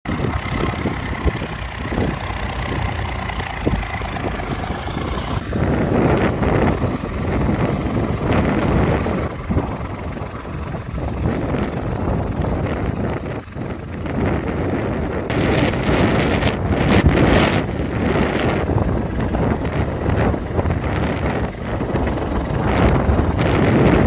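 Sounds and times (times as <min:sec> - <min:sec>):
tractor diesel engine running: 0:00.0 - 0:24.0
wind buffeting microphone: 0:00.0 - 0:24.0.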